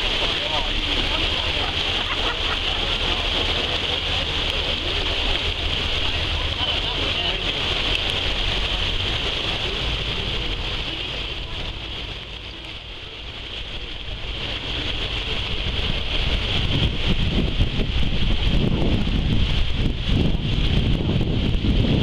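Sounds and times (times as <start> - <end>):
wake water hissing: 0.0 - 20.9
motor boat engine: 0.0 - 22.0
wind buffeting microphone: 0.0 - 22.0.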